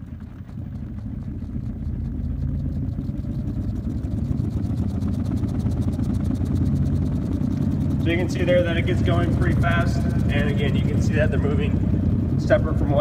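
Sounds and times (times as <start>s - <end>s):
vibration platform humming: 0.0s - 13.0s.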